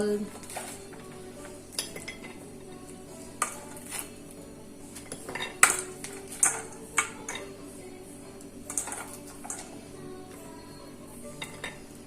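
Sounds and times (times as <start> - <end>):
utensils clinking against dishes: 0.0 - 12.0.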